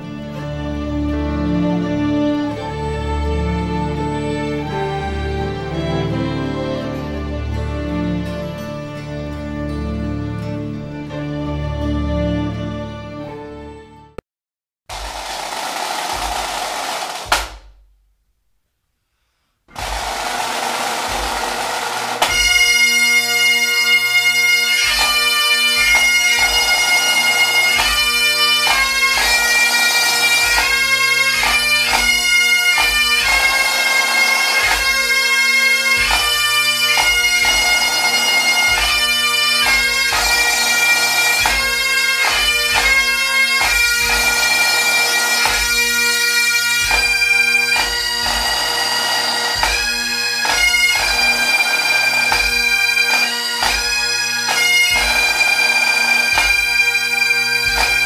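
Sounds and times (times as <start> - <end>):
bagpipes playing a tune: 0.0 - 13.4, 19.7 - 58.0.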